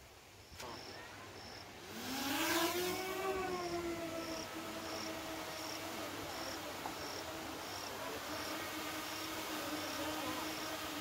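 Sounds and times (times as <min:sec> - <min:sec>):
drone propellers humming: 0:01.8 - 0:11.0.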